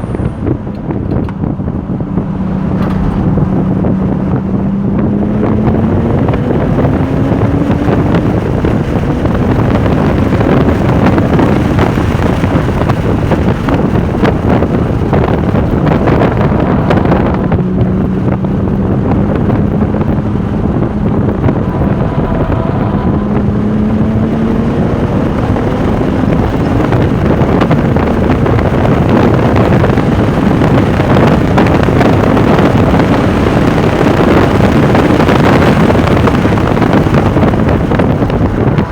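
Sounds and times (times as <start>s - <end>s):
car engine accelerating: 0.0s - 38.9s
wind noise on microphone: 0.0s - 38.9s.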